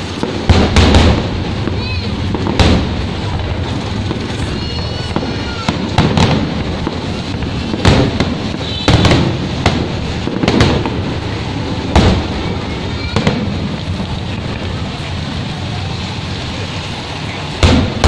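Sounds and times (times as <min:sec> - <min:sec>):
fireworks bangs: 0:00.0 - 0:18.0
rain hissing: 0:00.0 - 0:18.0.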